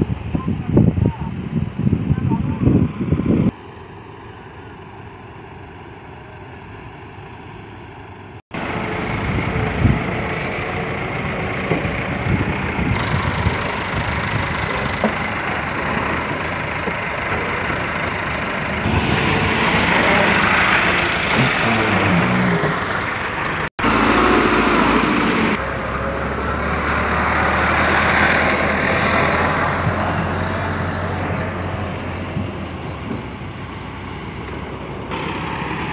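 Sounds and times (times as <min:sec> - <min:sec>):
diesel tractor engines running: 0:00.0 - 0:35.9.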